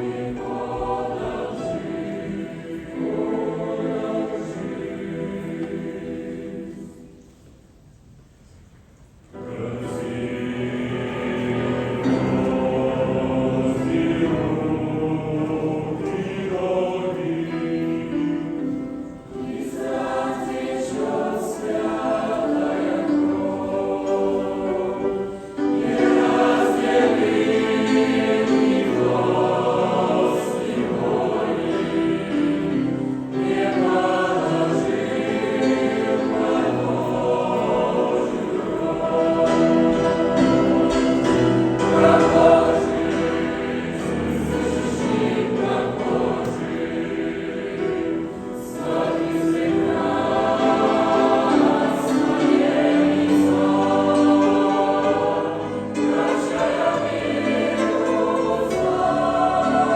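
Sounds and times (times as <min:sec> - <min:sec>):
choir singing: 0:00.0 - 0:07.7, 0:09.3 - 0:59.9.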